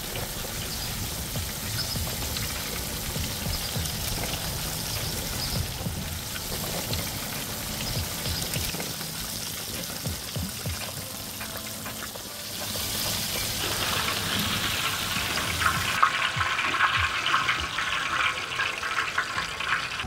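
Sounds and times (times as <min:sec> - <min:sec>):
fish deep-frying in hot oil: 0:00.0 - 0:20.0.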